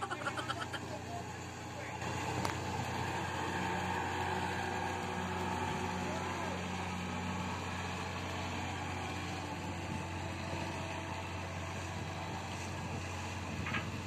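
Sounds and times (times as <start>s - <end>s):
engine drone: 0.0s - 14.0s
wind: 0.0s - 14.0s.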